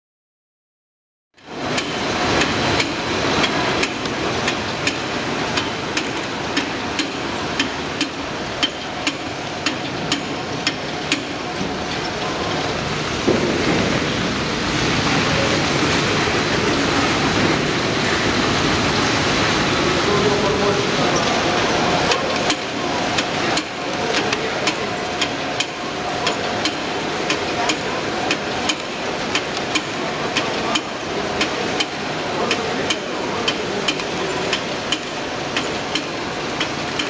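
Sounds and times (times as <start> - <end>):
conveyor machine running: 1.4 - 37.0
crates clicking on conveyor: 1.4 - 37.0.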